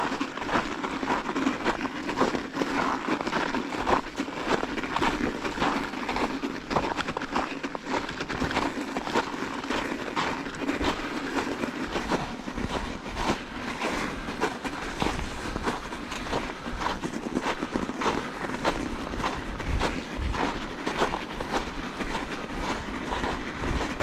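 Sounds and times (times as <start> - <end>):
bicycle tyres crackling on snow: 0.0 - 24.0.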